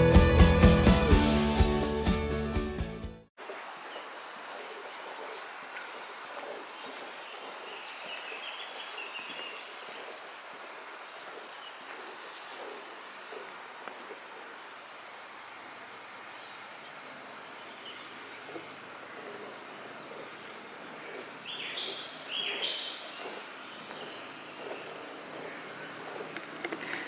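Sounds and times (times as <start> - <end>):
birds calling: 3.4 - 27.0
forest background hiss: 3.4 - 27.0.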